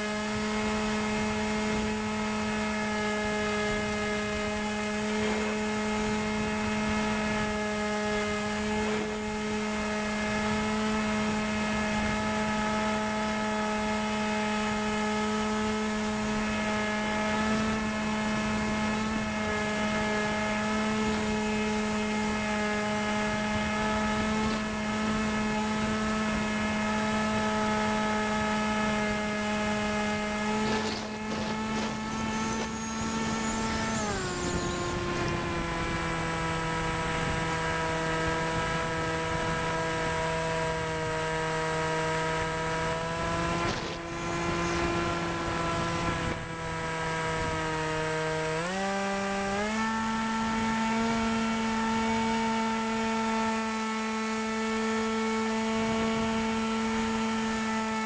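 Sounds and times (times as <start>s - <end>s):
model airplane motor and propeller: 0.0s - 58.0s.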